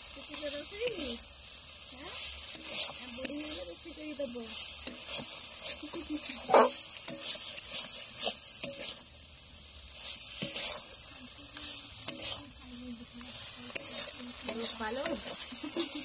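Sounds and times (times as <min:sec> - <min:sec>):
prawns sizzling in a pan: 0:00.0 - 0:16.0
metal spatula scraping a pan: 0:02.2 - 0:09.2, 0:09.8 - 0:16.0.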